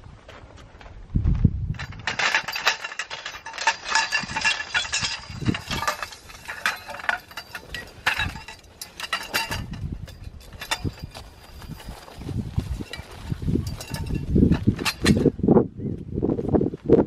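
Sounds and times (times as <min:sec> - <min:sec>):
metal poles clinking and rattling: 0:01.7 - 0:15.4.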